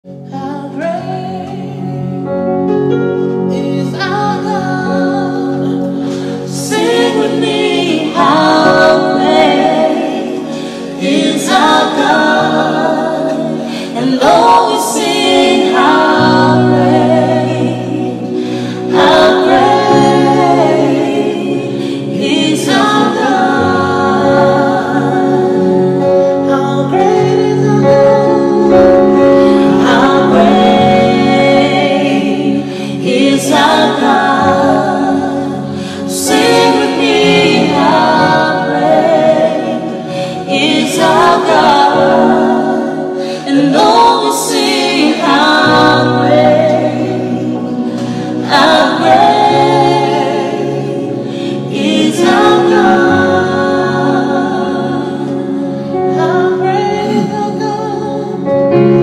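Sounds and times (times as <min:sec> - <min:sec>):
vocal group singing in harmony: 0:00.0 - 0:59.0.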